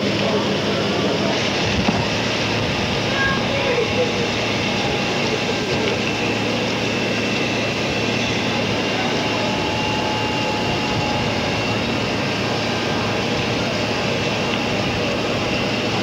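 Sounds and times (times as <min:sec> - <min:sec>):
crowd talking: 0:00.0 - 0:16.0
fire engine pumps droning: 0:00.0 - 0:16.0
hose spraying water: 0:00.0 - 0:16.0.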